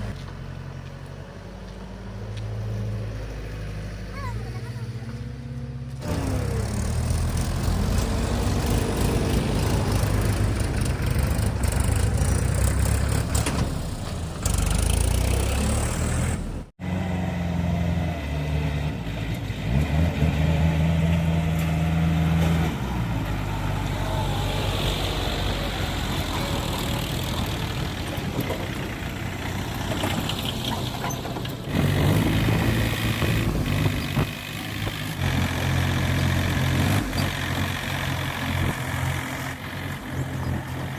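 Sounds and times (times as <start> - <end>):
tractor diesel engines revving: 0.0 - 40.9.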